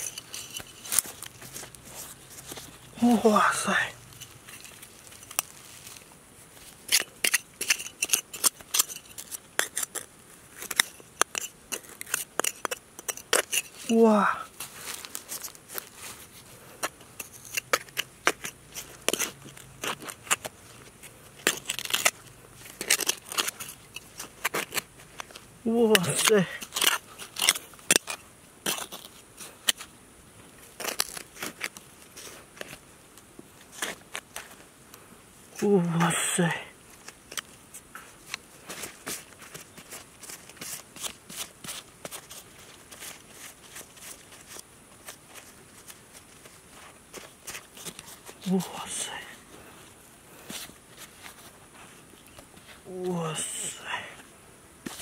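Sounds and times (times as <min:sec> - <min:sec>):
hand shovel scraping dry soil: 0:00.0 - 0:29.9, 0:30.6 - 0:32.8, 0:35.6 - 0:54.0.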